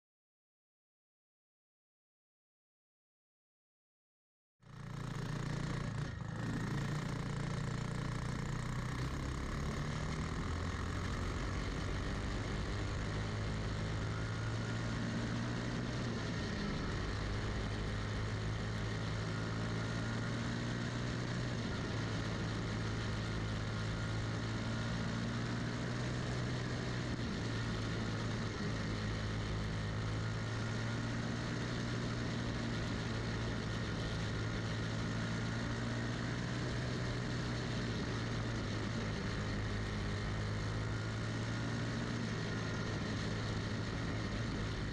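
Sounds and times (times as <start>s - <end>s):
kart engine running hard: 4.8s - 44.9s.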